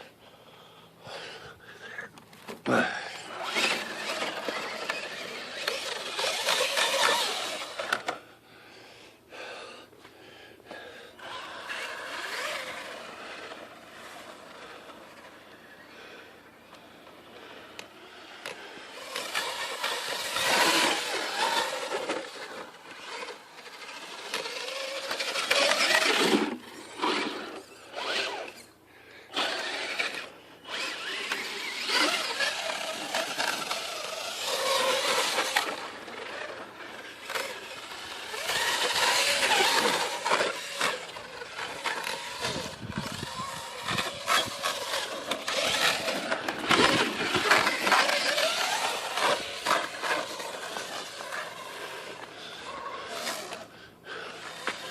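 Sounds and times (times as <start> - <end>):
toy truck motor whining: 2.6 - 8.2, 10.7 - 54.9.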